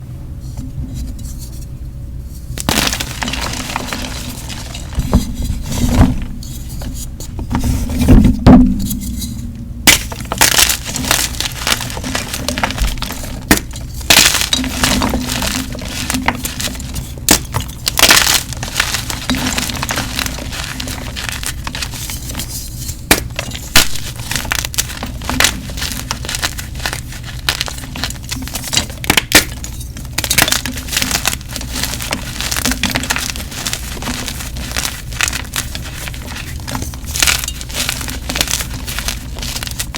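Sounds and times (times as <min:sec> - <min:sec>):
chalk being crushed: 0:02.4 - 0:07.1, 0:08.8 - 0:39.9.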